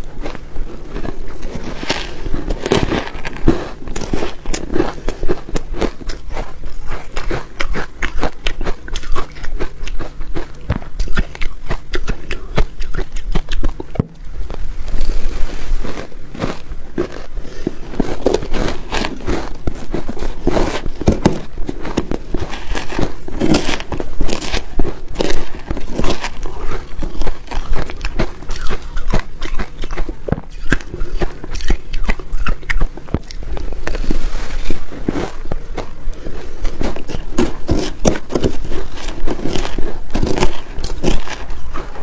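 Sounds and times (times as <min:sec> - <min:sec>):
crunching and chewing ice: 0:00.0 - 0:42.0.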